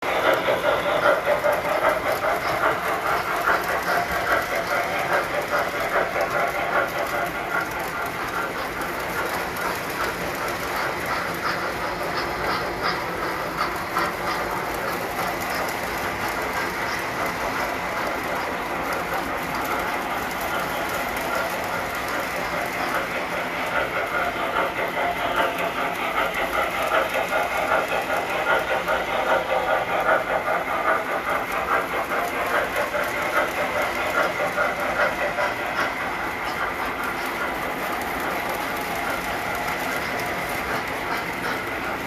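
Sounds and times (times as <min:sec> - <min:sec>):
model train wheels clattering: 0:00.0 - 0:42.0.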